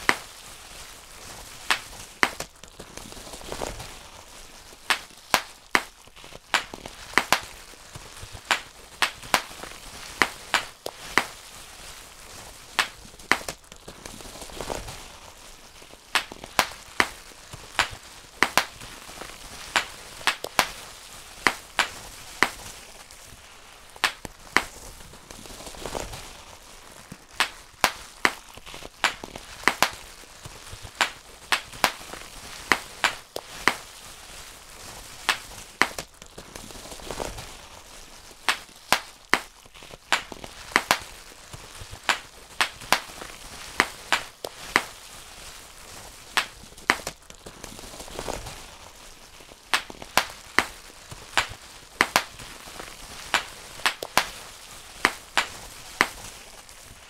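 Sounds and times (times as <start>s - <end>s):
bubble wrap popping: 0.0s - 57.0s
plastic sheet crinkling: 0.0s - 57.0s.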